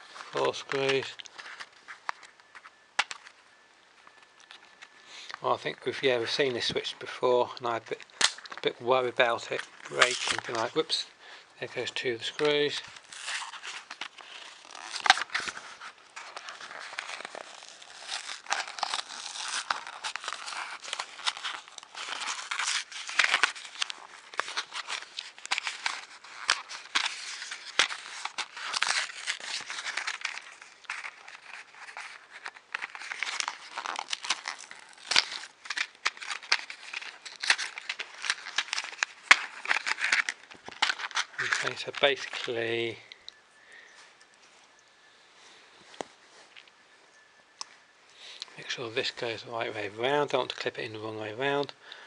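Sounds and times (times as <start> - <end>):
plastic packaging crinkling: 0.0 - 44.8, 47.6 - 52.0.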